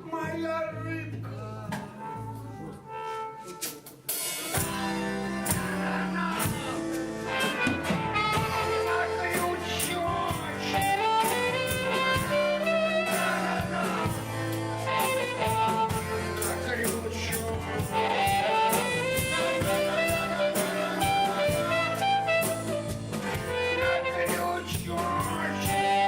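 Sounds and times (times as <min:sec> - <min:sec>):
live band playing instrumental: 0:01.7 - 0:26.0.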